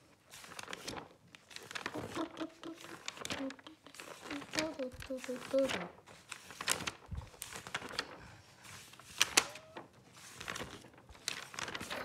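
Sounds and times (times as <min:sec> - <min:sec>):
paper pages rustling: 0:00.1 - 0:12.0
paper snaps: 0:00.4 - 0:08.2, 0:08.9 - 0:09.8, 0:10.4 - 0:12.0.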